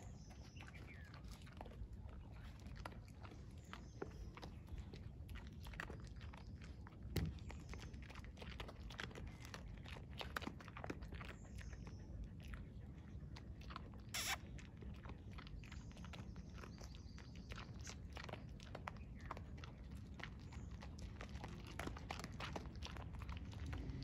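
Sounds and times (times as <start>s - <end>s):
dogs crunching dry kibble: 0.0s - 24.0s.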